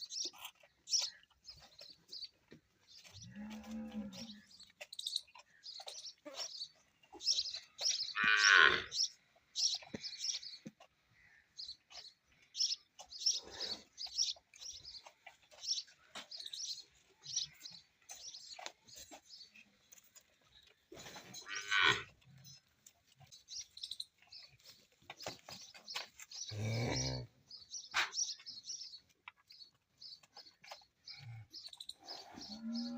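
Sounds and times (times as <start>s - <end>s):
farm animal calling: 0.0s - 32.9s.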